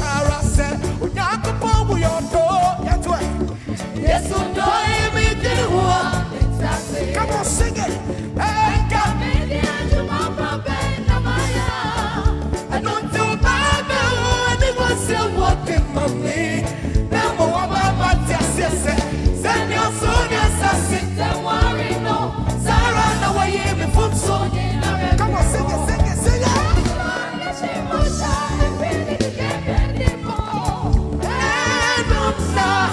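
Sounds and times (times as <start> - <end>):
gospel singing over a beat: 0.0 - 32.9.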